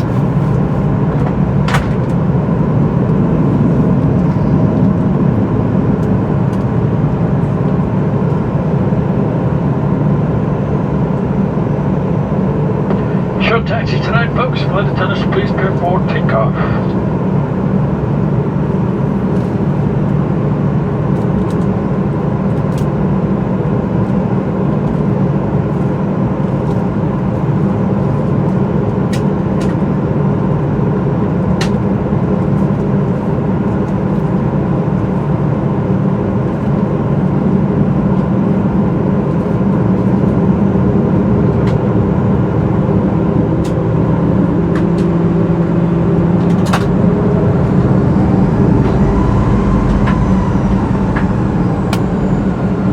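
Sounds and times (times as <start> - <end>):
jet cabin engine hum and rumble: 0.0 - 52.9.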